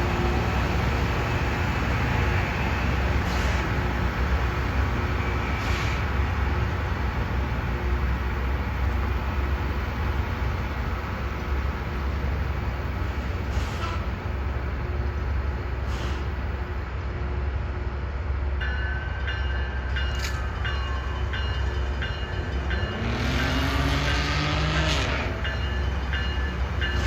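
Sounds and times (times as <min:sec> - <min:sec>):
rail grinding machine rumble: 0:00.0 - 0:27.0.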